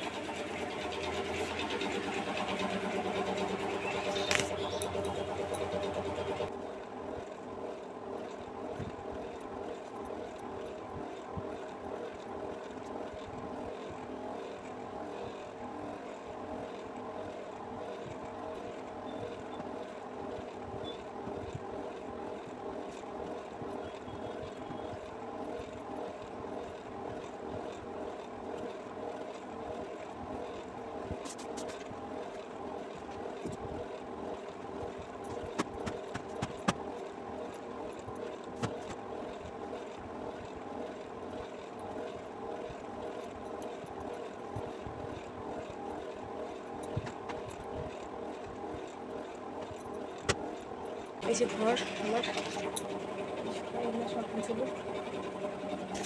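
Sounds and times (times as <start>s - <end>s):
steady mechanical drone: 0.0s - 56.0s.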